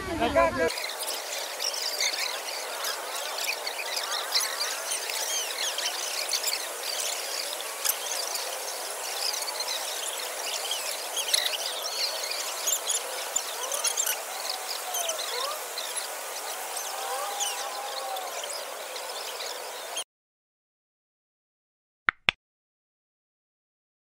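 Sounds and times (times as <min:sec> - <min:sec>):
fountain water jets hissing: 0:00.6 - 0:20.0.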